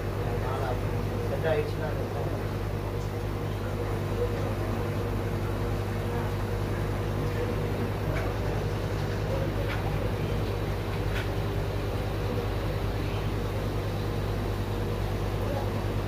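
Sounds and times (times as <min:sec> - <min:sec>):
aquarium pump hum and hiss: 0:00.0 - 0:16.0.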